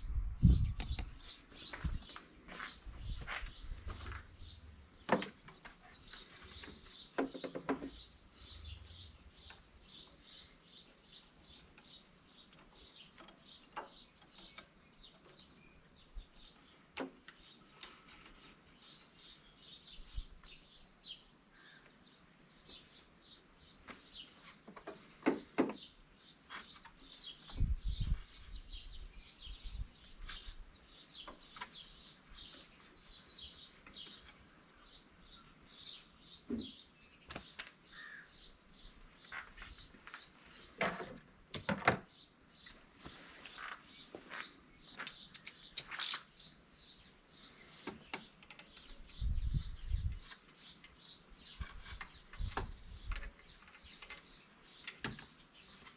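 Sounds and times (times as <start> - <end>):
small birds chirping: 0.1 - 55.9.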